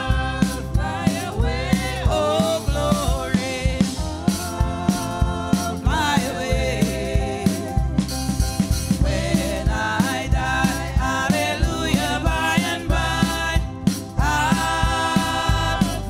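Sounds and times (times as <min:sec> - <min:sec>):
backing singers: 0:00.0 - 0:08.3, 0:08.9 - 0:16.0
woman singing lead: 0:00.0 - 0:08.3, 0:09.0 - 0:16.0
bass: 0:00.0 - 0:16.0
drum beat: 0:00.0 - 0:16.0.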